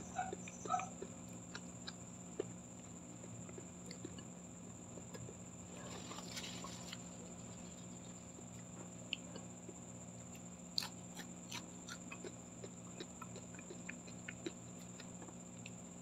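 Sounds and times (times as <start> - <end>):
chewing with wet mouth clicks: 0.0 - 7.1, 8.0 - 16.0.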